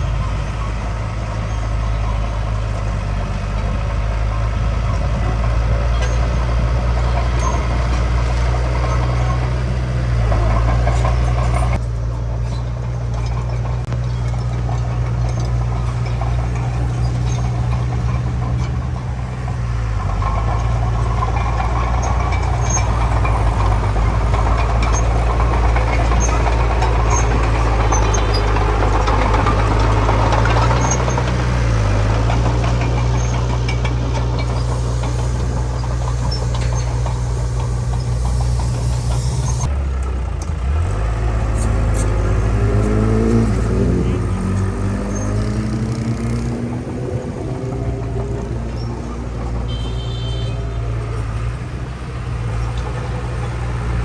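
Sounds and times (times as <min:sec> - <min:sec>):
heavy diesel engine running: 0:00.0 - 0:54.0
rough rushing clattering noise: 0:00.0 - 0:54.0.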